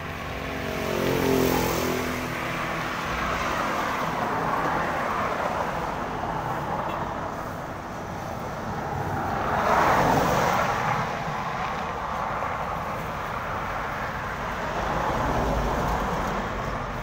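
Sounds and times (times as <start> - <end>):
vehicles passing on concrete road: 0.0 - 17.0.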